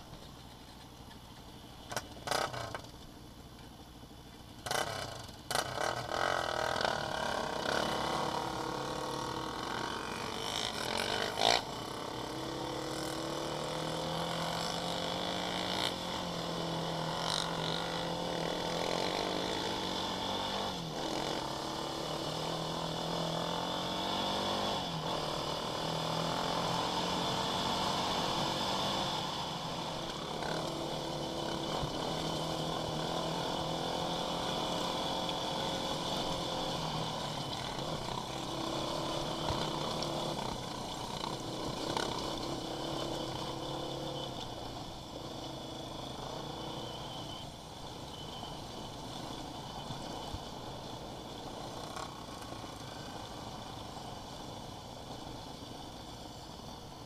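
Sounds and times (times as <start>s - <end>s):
quad bike engine: 0.0s - 57.0s
wind: 0.0s - 57.0s.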